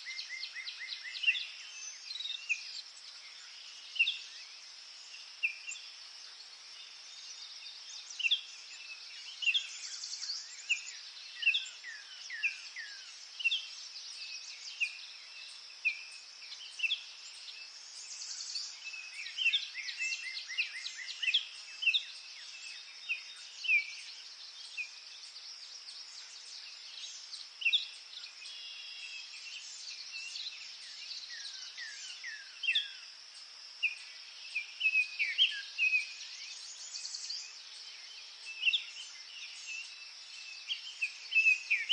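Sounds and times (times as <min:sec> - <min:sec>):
birds singing: 0:00.0 - 0:41.9
steady high-pitched hiss: 0:00.0 - 0:41.9.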